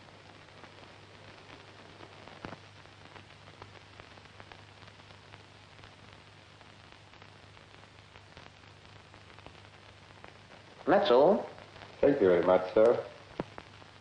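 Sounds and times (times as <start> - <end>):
film soundtrack hiss and crackle: 0.0 - 14.0.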